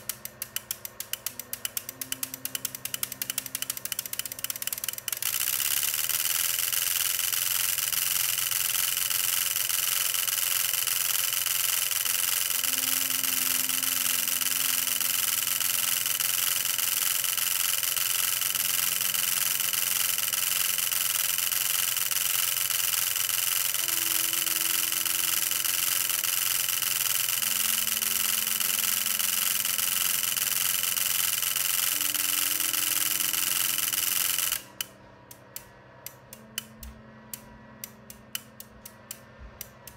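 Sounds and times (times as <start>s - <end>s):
relays clicking in dense buzz: 0.0s - 39.9s.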